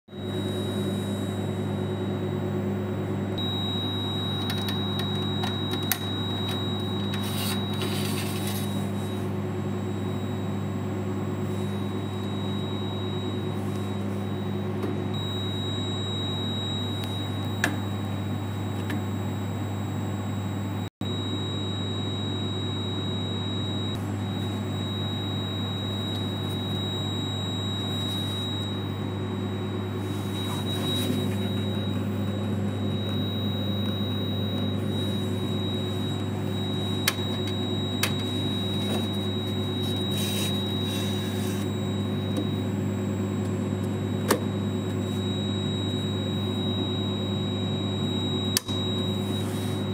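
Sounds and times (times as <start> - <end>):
machine hum: 0.1 - 49.9.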